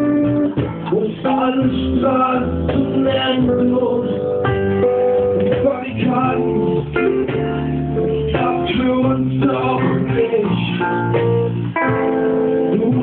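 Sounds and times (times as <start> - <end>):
guitar: 0.0 - 13.0
person singing slow song: 0.0 - 13.0.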